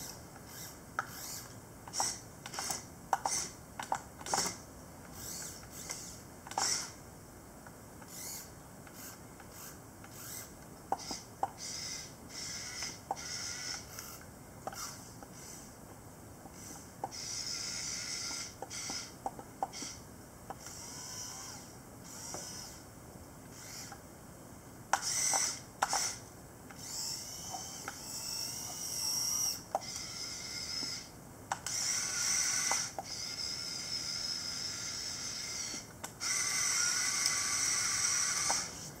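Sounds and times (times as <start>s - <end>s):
toy excavator motors whirring: 0.0s - 7.0s, 8.0s - 15.8s, 16.5s - 22.8s, 23.5s - 24.0s, 24.9s - 39.0s.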